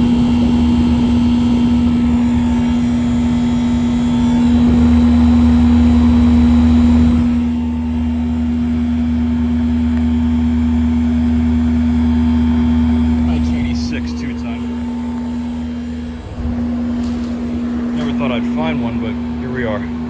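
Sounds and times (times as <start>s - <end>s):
heat pump humming: 0.0s - 20.0s.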